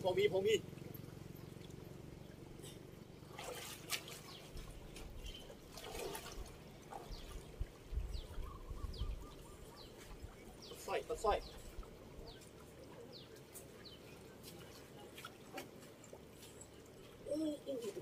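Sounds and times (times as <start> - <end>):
person wading through river water: 0.6 - 18.0.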